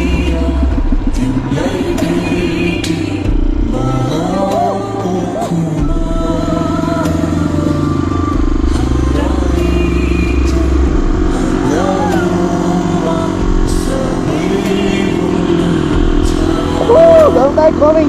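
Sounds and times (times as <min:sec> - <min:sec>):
motorcycle engine running: 0:00.0 - 0:18.0
song playing: 0:00.0 - 0:18.0.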